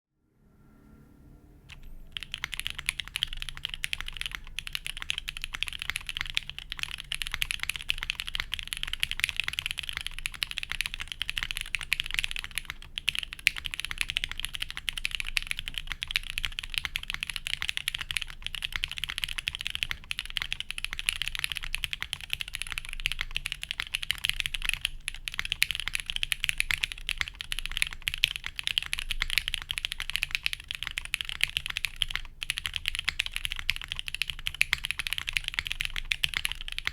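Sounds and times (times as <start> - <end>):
fast typing on mechanical keyboard: 1.7 - 36.9.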